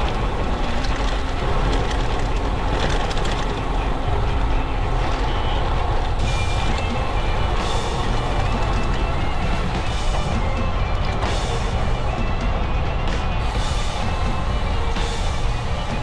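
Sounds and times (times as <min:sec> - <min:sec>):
tyre rumble on road: 0:00.0 - 0:16.0
wind buffeting microphone: 0:00.0 - 0:16.0.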